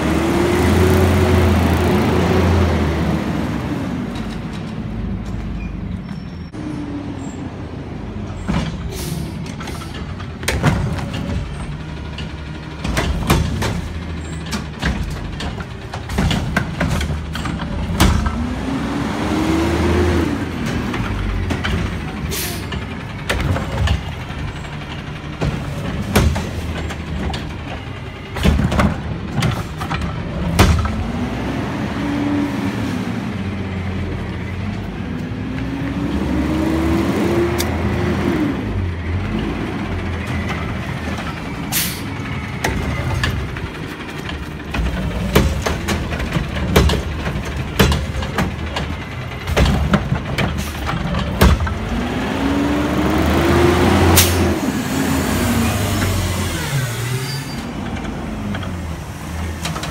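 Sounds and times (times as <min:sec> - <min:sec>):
garbage truck engine revving: 0:00.0 - 0:04.9, 0:06.8 - 0:59.9
cart arm clanking and banging: 0:04.0 - 0:06.6, 0:08.1 - 0:32.4, 0:33.3 - 0:59.9.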